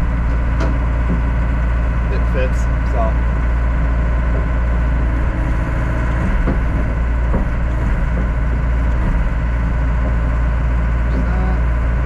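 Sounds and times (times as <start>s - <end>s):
excavator diesel engine idling: 0.0s - 12.0s.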